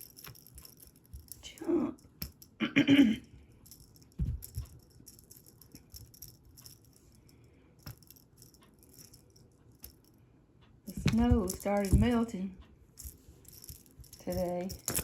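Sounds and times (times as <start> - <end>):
cat toy rattling and jingling: 0.0 - 2.5, 3.6 - 10.1, 10.9 - 12.4, 13.0 - 15.0.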